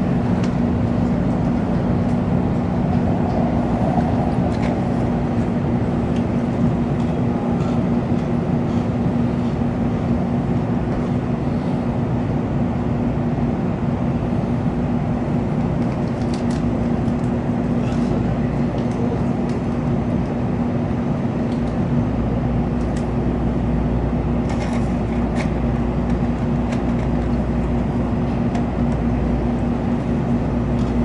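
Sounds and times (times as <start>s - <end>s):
train cabin running noise: 0.0s - 31.0s.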